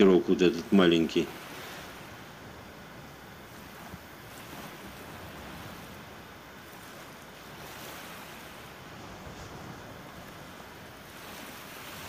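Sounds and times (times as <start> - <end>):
rough sea waves: 0.0 - 12.0
wind hissing: 0.0 - 12.0.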